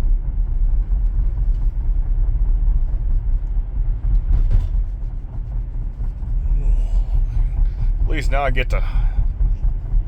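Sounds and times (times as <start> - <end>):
tyre and road noise rumble: 0.0 - 10.0.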